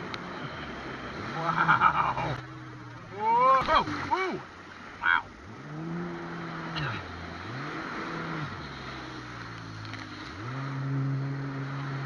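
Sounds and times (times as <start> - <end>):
jet ski engine revving: 0.0 - 12.0
rushing water: 0.0 - 12.0
wind: 0.0 - 12.0.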